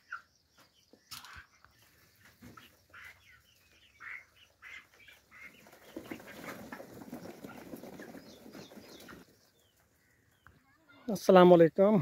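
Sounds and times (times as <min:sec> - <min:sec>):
young chickens clucking and chirping: 0:00.0 - 0:11.5.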